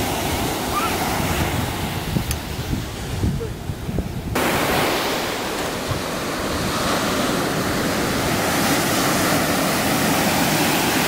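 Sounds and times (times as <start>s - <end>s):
ocean surf on sandy beach: 0.0s - 11.0s
wind on microphone: 0.0s - 11.0s.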